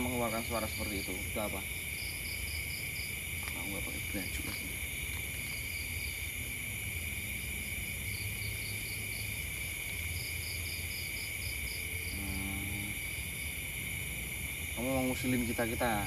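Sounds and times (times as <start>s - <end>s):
crickets trilling: 0.0s - 16.0s
high pulsing insect chirp: 0.0s - 16.0s.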